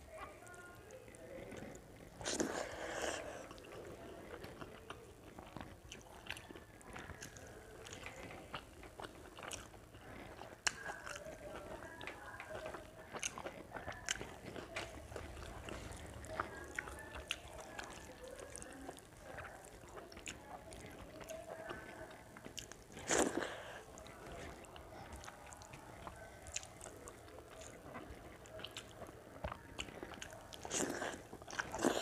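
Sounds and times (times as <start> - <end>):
wet chewing and mouth smacks: 0.1 - 32.0.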